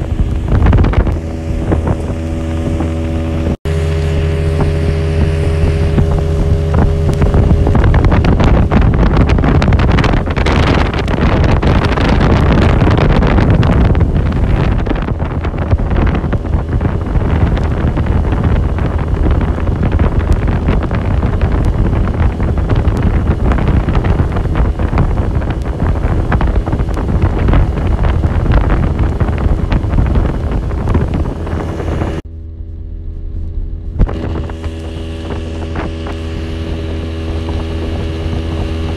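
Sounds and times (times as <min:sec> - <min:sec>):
rushing water: 0:00.0 - 0:32.2
outboard motor humming: 0:00.0 - 0:38.9
wind buffeting microphone: 0:00.0 - 0:38.9.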